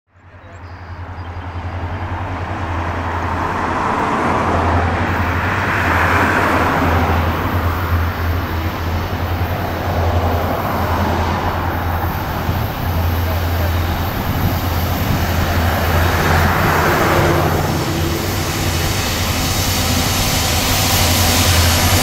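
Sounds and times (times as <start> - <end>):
diesel locomotive engines droning: 0.1 - 22.0
train rumble and hiss: 0.2 - 22.0.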